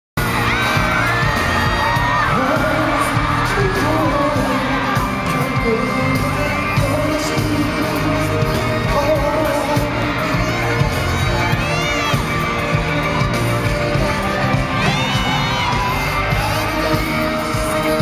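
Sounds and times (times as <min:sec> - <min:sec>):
fans screaming: 0:00.2 - 0:18.0
live pop music: 0:00.2 - 0:18.0
man singing: 0:01.3 - 0:18.0.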